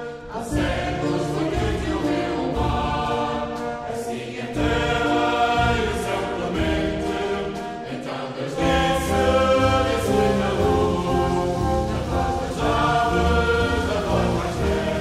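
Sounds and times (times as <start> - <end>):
sustained notes music: 0.0 - 15.0.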